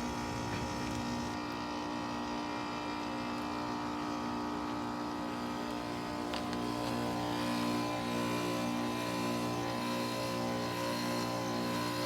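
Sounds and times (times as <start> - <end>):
heat pump unit humming: 0.0 - 12.0.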